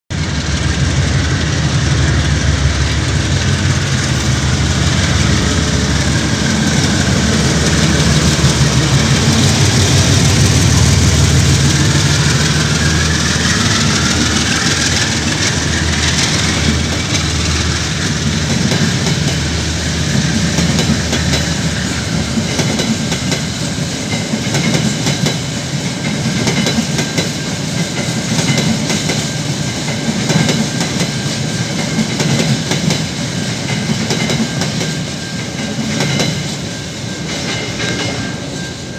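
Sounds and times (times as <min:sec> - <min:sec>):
diesel locomotive engine drone: 0:00.1 - 0:38.9
train wheels clicking over rail joints: 0:00.1 - 0:38.9.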